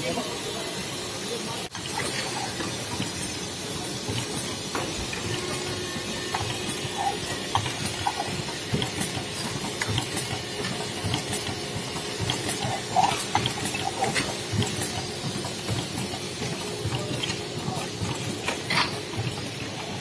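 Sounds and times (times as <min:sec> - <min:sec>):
machinery hissing: 0:00.0 - 0:20.0.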